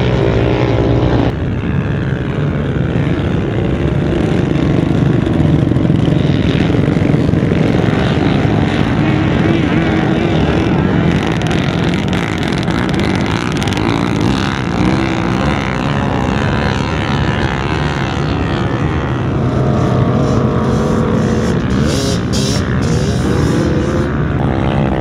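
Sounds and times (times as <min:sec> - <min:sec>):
quad engines revving: 0:00.0 - 0:25.0.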